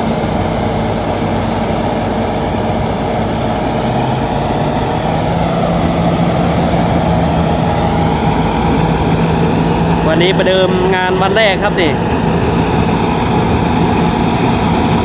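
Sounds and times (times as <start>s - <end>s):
combine harvester engine drone: 0.0s - 15.0s
high whine: 0.0s - 15.0s
rushing machinery noise: 0.0s - 15.0s.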